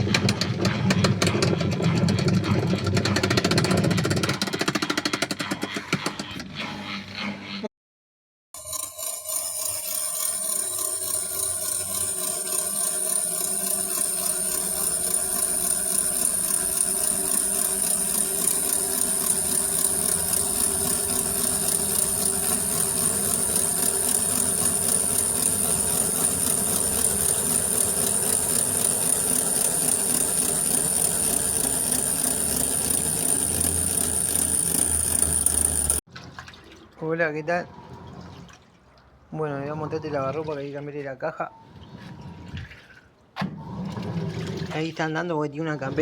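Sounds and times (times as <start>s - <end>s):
washing machine running: 0.0s - 6.2s, 8.6s - 36.7s, 41.6s - 46.0s.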